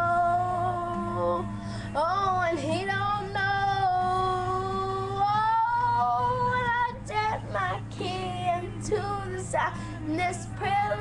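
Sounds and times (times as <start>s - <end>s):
girl singing unaccompanied: 0.0s - 11.0s.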